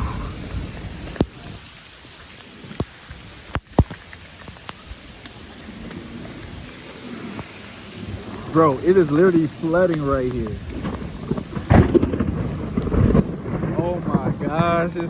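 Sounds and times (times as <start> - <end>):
heavy rain pattering: 0.0 - 15.0.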